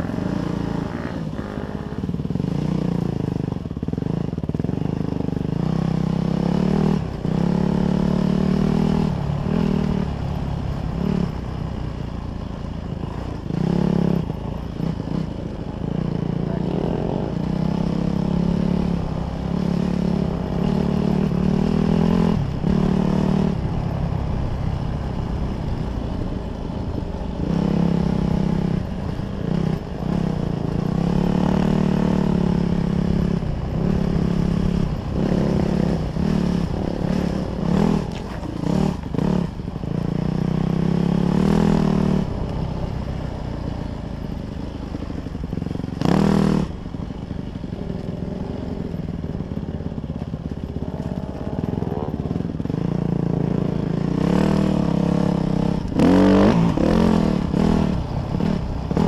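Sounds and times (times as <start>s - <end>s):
dirt bike engine revving: 0.0s - 11.4s, 13.1s - 23.9s, 27.0s - 42.4s, 45.5s - 46.8s, 50.1s - 59.0s.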